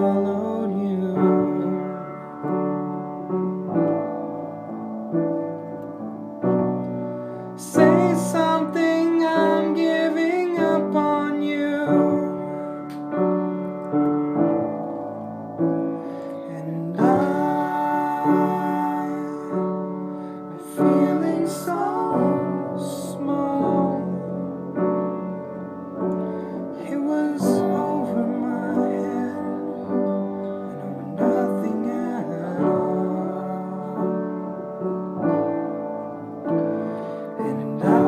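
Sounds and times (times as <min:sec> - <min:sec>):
piano playing slow chords: 0:00.0 - 0:38.0.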